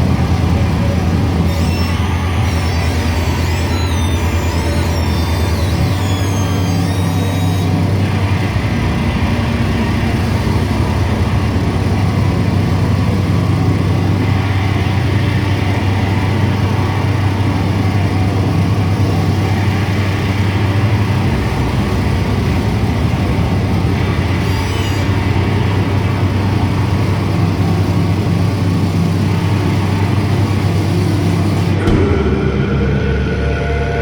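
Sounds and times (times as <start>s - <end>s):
amplified band drone with hiss: 0.0s - 34.0s.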